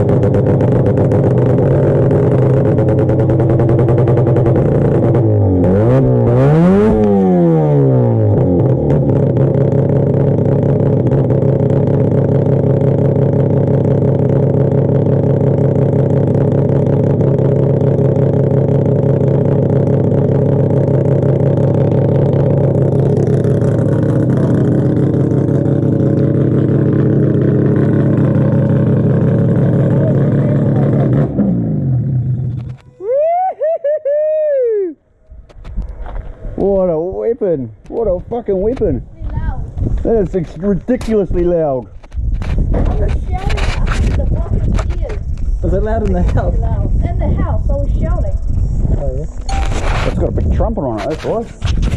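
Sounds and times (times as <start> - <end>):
rotary engine revving and idling: 0.0 - 32.9, 35.2 - 51.9.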